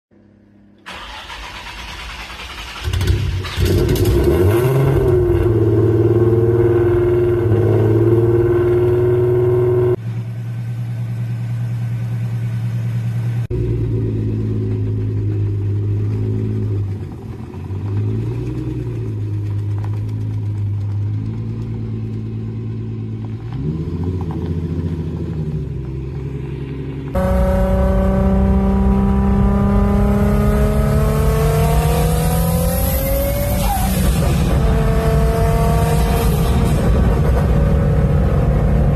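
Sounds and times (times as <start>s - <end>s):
car engine revving: 0.8s - 10.0s, 13.4s - 38.9s.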